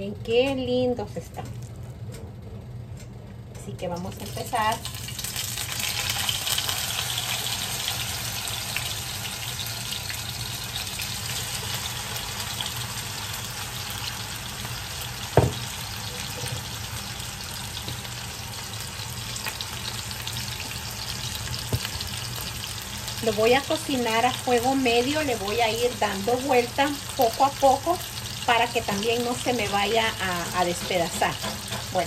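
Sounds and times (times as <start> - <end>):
fish sizzling in a frying pan: 4.2 - 32.0.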